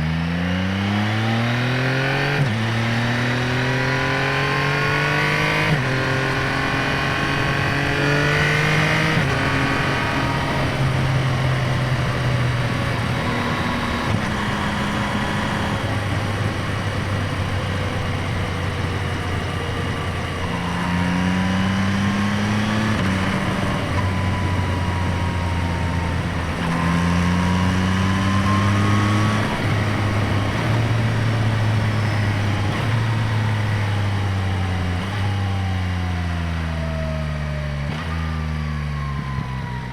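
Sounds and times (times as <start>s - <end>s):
motorcycle engine running: 2.4s - 38.0s.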